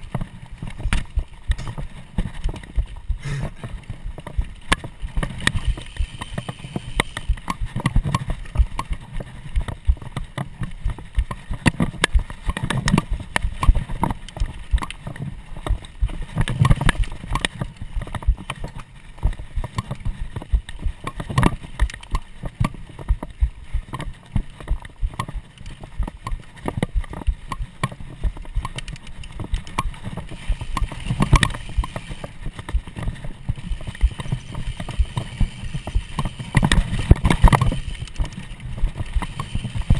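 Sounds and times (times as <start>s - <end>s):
bike clattering over bumps: 0.0s - 39.9s
tyre noise: 0.0s - 39.9s.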